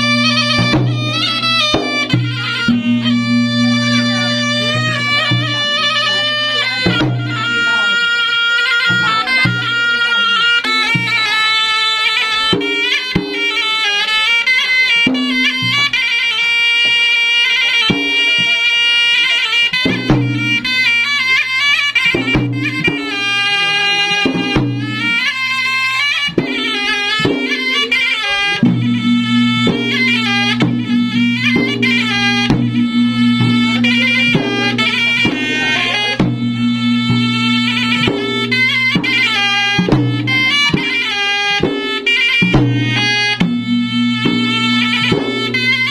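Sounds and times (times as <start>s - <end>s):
hand-beaten drums: 0.0s - 45.9s
shrill reedy pipe melody: 0.0s - 45.9s.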